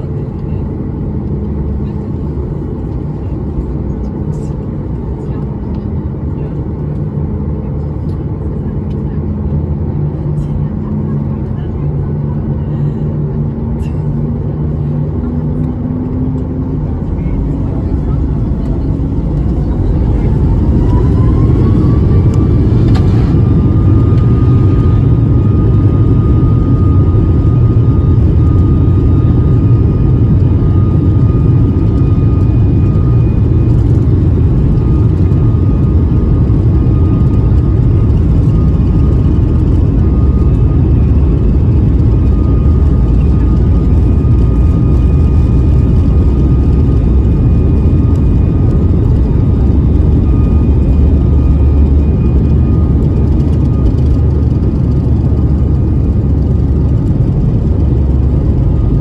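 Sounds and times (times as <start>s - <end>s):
jet engine fan whine: 0.0s - 59.0s
jet engine rumble: 0.0s - 59.0s.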